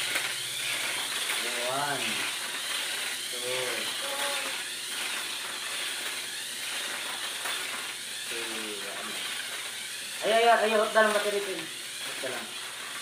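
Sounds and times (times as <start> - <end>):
toy car motor whir: 0.0 - 13.0.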